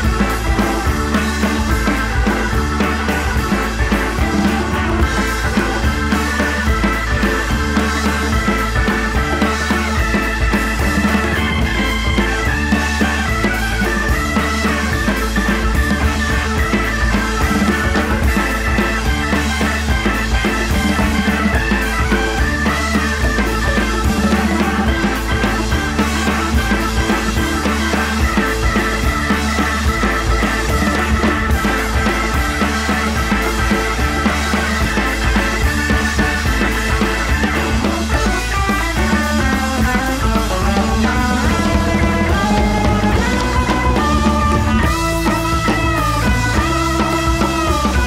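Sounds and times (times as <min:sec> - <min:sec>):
rock music with steady beat: 0:00.0 - 0:48.0.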